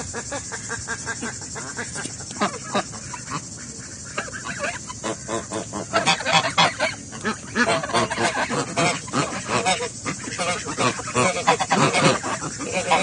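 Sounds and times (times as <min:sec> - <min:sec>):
ducks calling: 0:00.0 - 0:13.0.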